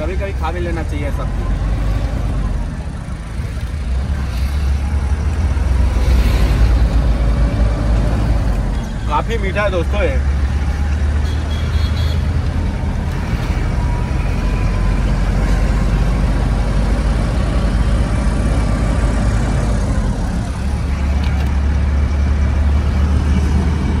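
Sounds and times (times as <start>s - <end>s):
road noise: 0.0s - 24.0s
truck engine rumble: 0.0s - 24.0s.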